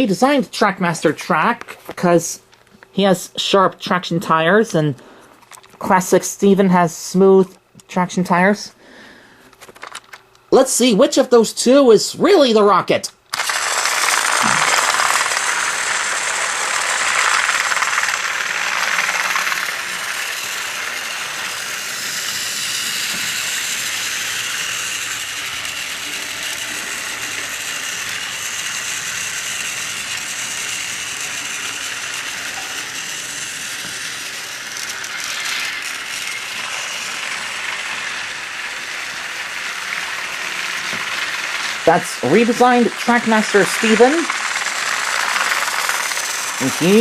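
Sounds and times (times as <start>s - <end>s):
toy train motors whirring: 0.0s - 7.6s, 9.5s - 12.6s, 13.3s - 47.0s.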